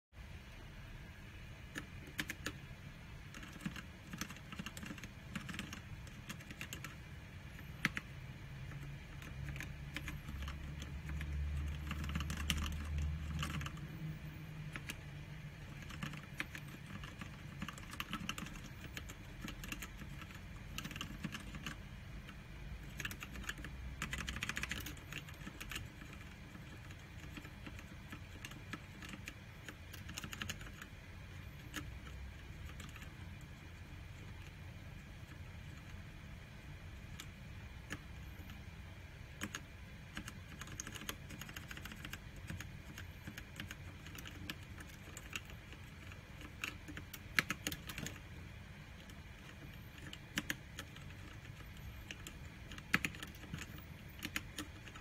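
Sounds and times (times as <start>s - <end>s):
mechanical keyboard typing: 1.6s - 36.1s, 37.0s - 38.6s, 39.2s - 55.0s.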